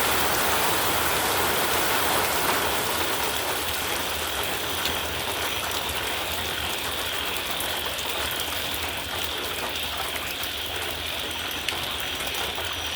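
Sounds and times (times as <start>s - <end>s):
raindrops ticking: 0.0s - 12.9s
steady rain falling: 0.0s - 12.9s.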